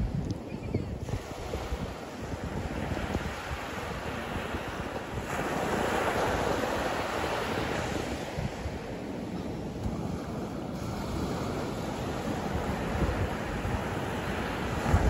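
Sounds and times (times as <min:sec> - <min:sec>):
waves washing up beach: 0:00.0 - 0:15.0
wind buffeting microphone: 0:00.0 - 0:15.0.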